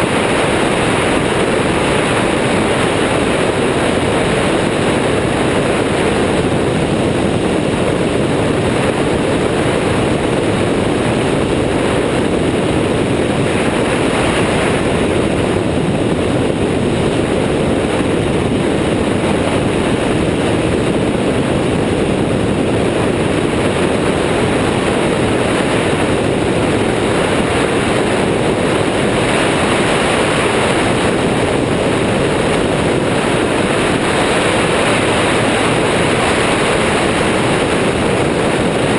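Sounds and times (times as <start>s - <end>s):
airflow over microphone: 0.0s - 38.9s
ultralight engine and propeller: 0.0s - 38.9s.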